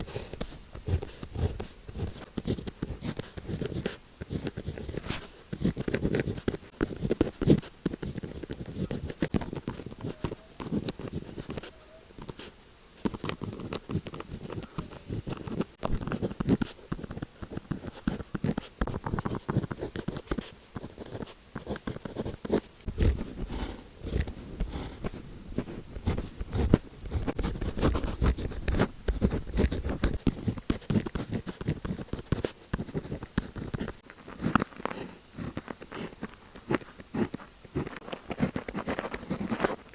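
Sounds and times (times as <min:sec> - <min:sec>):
pen scratching on paper: 0:00.0 - 0:39.8.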